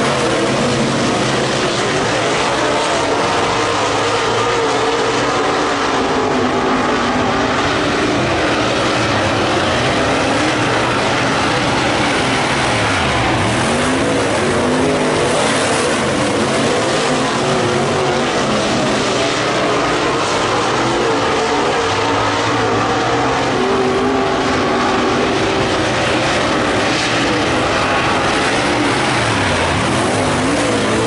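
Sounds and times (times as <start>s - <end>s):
race car engine: 0.0s - 31.0s.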